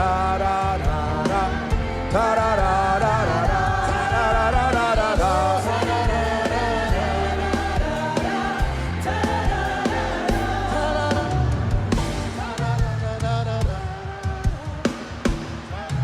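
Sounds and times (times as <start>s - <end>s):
gospel band with bass and drums: 0.0s - 16.0s
people singing: 0.0s - 16.0s.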